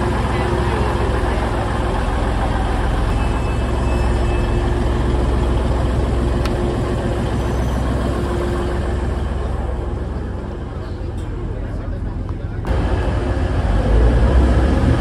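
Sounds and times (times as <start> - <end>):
train engines idling: 0.0 - 15.0.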